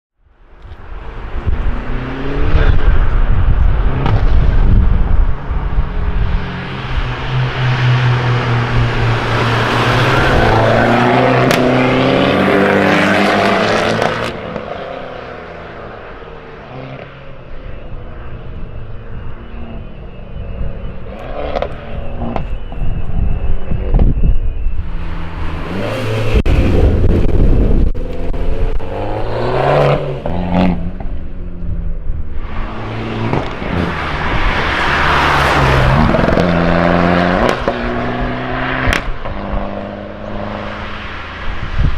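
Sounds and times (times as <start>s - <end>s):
car engine revving: 1.2s - 23.0s, 24.7s - 41.6s.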